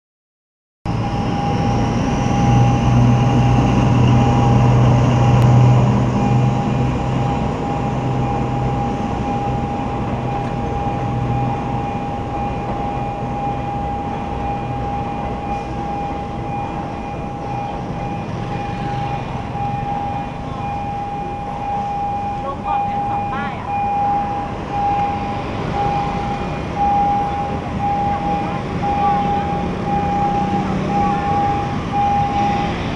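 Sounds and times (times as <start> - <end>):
crossing warning signal tone: 0.9 - 32.9
diesel locomotive engine: 0.9 - 32.9
train carriages rolling past: 0.9 - 32.9.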